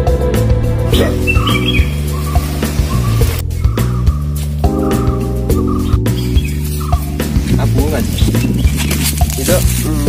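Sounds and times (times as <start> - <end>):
music with sustained chords: 0.0 - 10.0.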